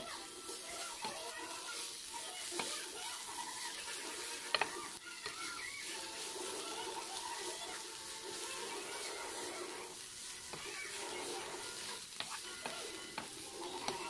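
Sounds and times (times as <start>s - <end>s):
vegetables sizzling in a frying pan: 0.0s - 14.0s.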